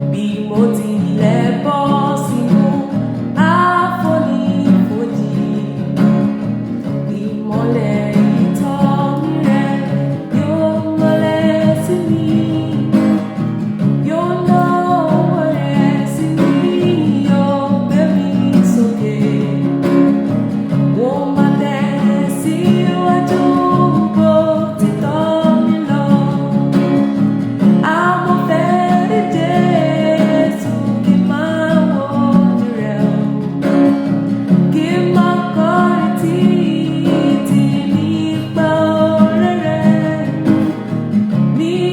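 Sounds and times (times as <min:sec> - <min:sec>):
solo voice singing a hymn: 0:00.0 - 0:06.0, 0:07.1 - 0:13.2, 0:14.0 - 0:19.9, 0:20.9 - 0:27.0, 0:27.8 - 0:33.8, 0:34.7 - 0:40.6, 0:41.6 - 0:41.9
strummed guitar chords: 0:00.0 - 0:41.9.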